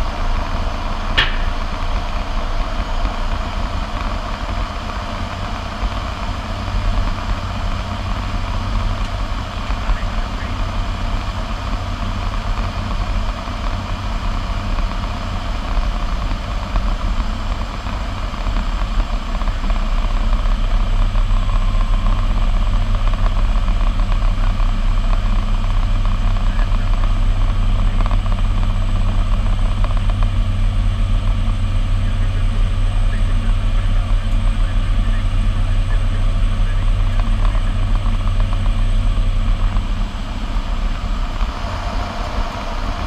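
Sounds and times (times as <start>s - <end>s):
turboprop engine drone: 0.0s - 43.0s.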